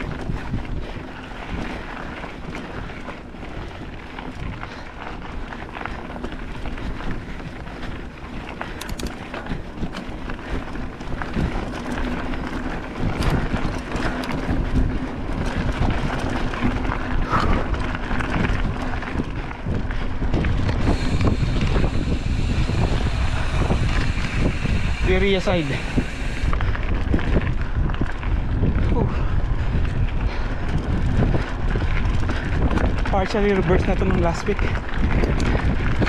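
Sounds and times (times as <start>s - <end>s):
bicycle tyres crackling on dirt trail: 0.0s - 36.0s
wind buffeting microphone: 0.0s - 36.0s.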